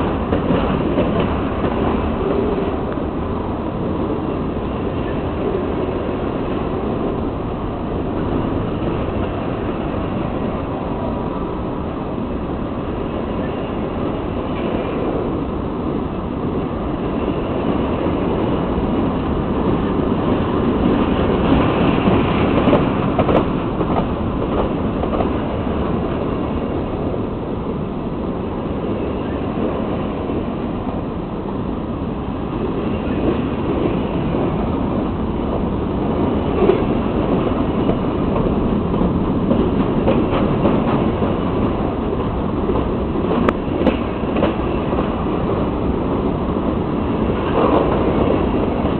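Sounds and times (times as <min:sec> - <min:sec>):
steel wheels rumbling on rail: 0:00.0 - 0:48.9.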